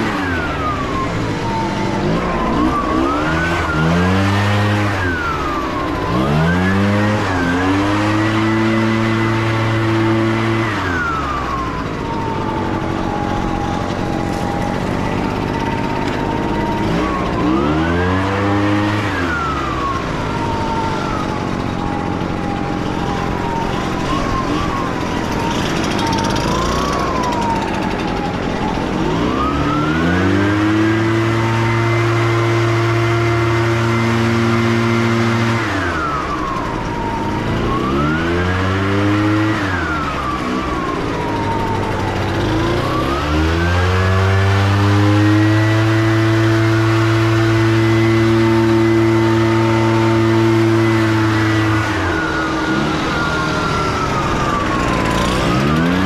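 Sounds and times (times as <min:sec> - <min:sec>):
leaf blower motor whine: 0:00.0 - 0:56.0.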